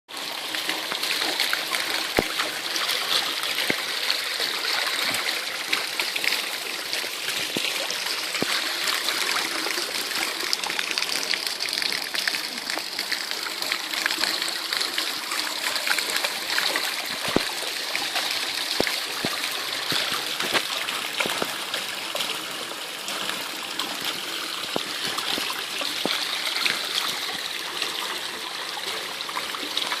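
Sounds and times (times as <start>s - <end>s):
drips and splashes: 0.1s - 30.0s
rushing water: 0.1s - 30.0s.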